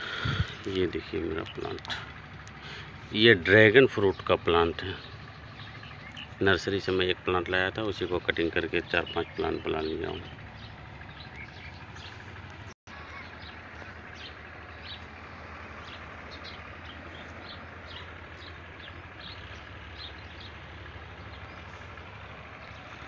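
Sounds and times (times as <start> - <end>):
low background rumble: 0.0 - 23.0
small birds chirping: 0.0 - 23.0.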